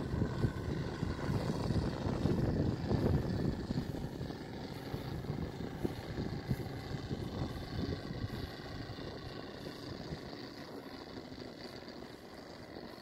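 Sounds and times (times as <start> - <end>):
model plane propeller drone: 0.0 - 13.0.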